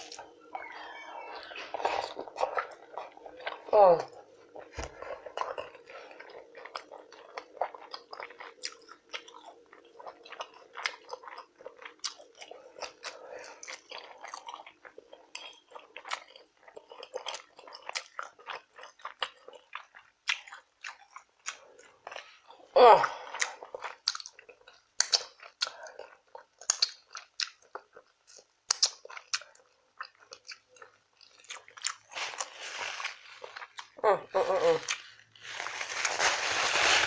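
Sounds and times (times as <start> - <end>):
close-miked chewing: 0.0 - 37.0.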